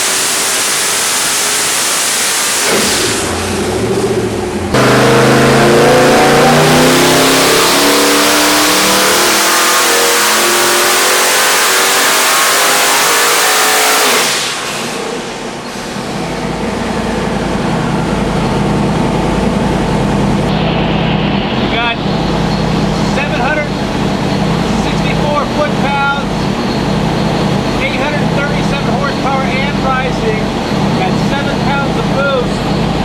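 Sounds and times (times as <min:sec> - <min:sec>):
engine revving under full load: 0:00.0 - 0:33.0.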